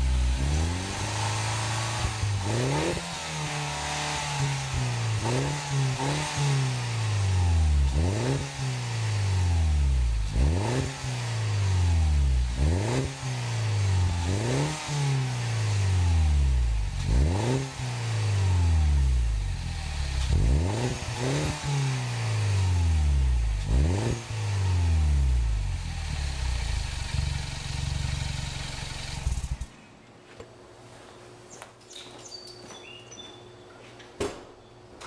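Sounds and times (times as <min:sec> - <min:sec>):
car engine revving: 0:00.0 - 0:29.7.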